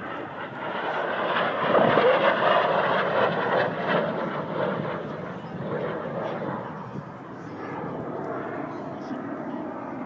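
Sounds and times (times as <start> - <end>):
airplane flying past: 0.0 - 10.0.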